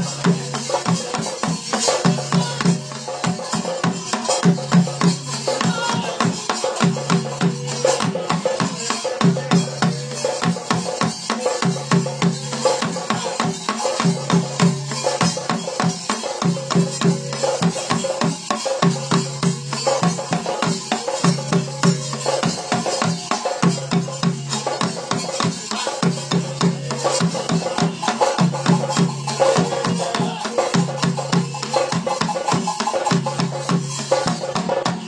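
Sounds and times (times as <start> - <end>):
drums beaten fast: 0.0 - 35.0.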